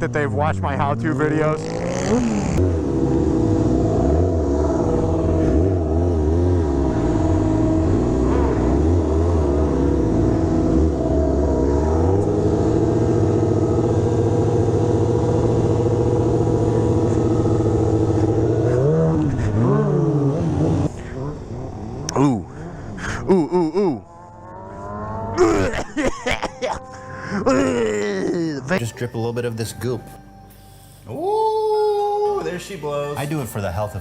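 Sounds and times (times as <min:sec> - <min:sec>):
motorcycle engine revving: 0:00.0 - 0:28.7.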